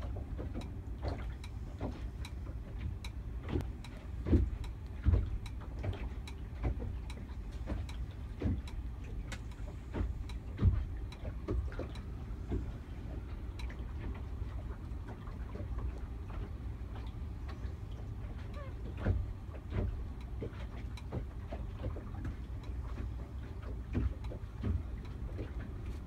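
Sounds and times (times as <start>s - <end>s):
high wind buffeting a boat: 0.0s - 26.0s
small clicks and ticks: 0.1s - 26.0s.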